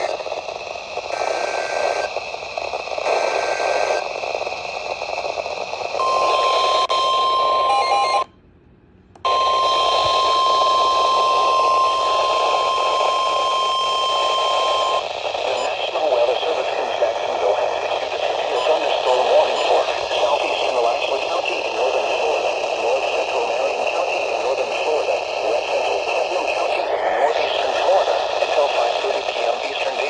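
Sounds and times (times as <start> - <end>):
digital data bursts: 0.0 - 8.2, 9.3 - 30.0
radio static: 0.0 - 8.3, 9.2 - 30.0
steady warning alarm tone: 0.0 - 8.4, 9.2 - 26.8.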